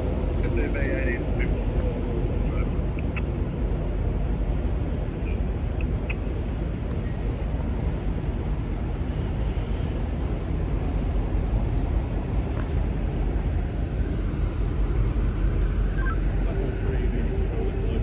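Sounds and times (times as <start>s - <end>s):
diesel locomotive engine rumbling: 0.0s - 18.0s.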